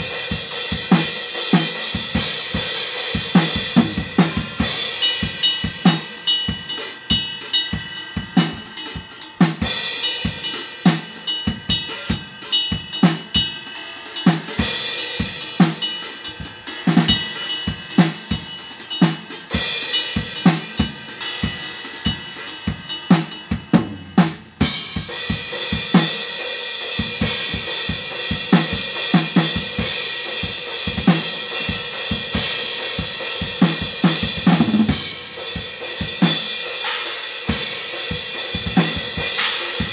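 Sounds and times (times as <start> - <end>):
hi-hat and cymbals: 0.0 - 39.9.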